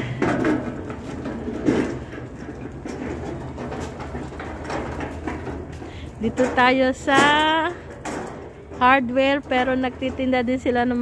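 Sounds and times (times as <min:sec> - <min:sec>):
cart rattling: 0:00.0 - 0:11.0
cart wheels rumbling on concrete: 0:00.0 - 0:11.0.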